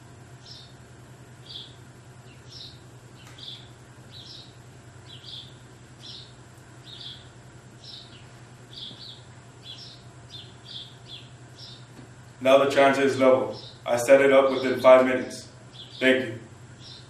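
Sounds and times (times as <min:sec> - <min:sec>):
steady low hum: 0:00.0 - 0:17.0
bird chirping: 0:00.4 - 0:00.8, 0:01.4 - 0:11.9, 0:13.2 - 0:15.0, 0:15.7 - 0:17.0.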